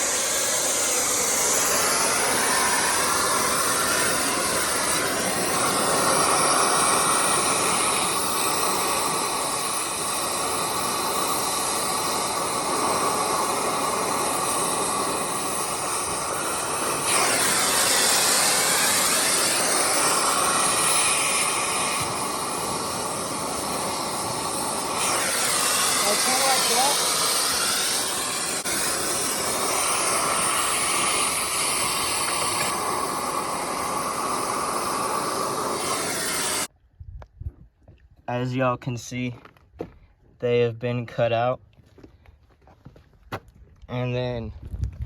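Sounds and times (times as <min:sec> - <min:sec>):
cutting torch hissing: 0:00.0 - 0:36.7.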